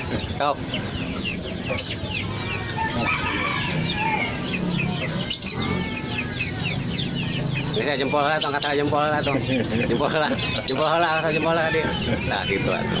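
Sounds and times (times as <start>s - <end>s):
caged birds chirping: 0.0s - 13.0s
chickens clucking: 0.0s - 13.0s.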